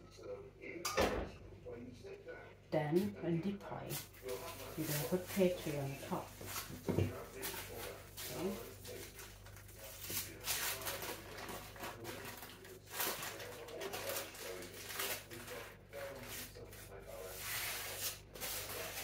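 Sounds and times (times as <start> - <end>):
baking paper rustling: 3.7 - 19.0.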